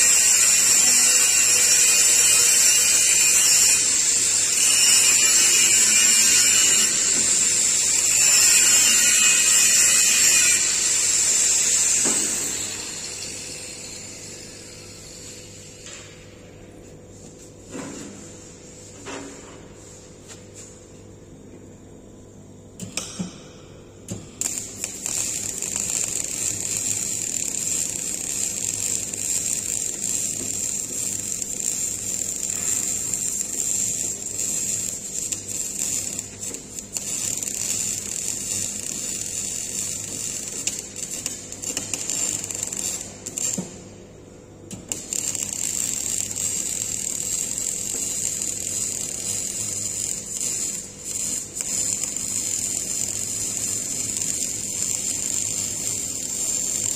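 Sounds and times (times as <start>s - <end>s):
welding arc crackling hiss: 0.0s - 21.0s, 22.8s - 56.9s.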